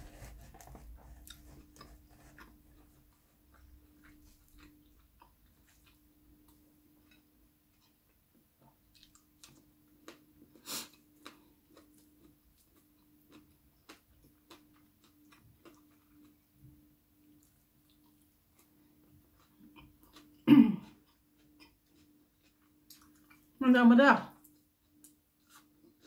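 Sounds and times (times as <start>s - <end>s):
person chewing softly: 0.0s - 23.6s, 24.3s - 26.0s
faint steady hum: 0.0s - 26.0s.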